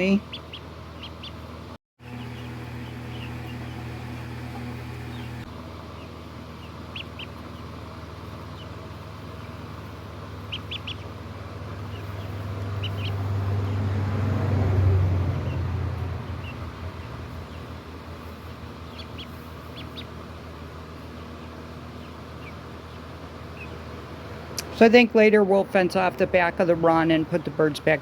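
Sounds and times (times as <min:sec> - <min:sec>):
ducks calling: 0:00.0 - 0:13.8, 0:15.3 - 0:24.3
low droning hum: 0:00.0 - 0:28.0.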